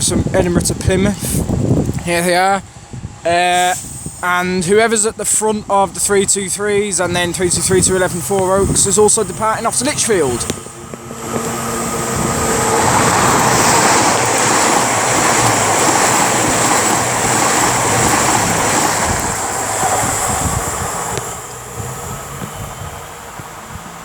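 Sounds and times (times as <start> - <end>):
train rushing past: 0.0 - 24.0.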